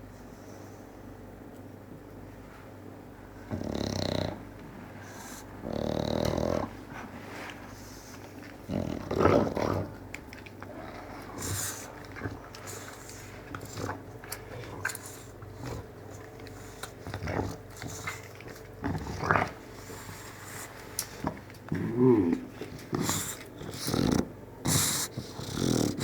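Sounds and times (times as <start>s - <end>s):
dog snorting and rasping: 3.5s - 10.0s, 10.6s - 26.0s.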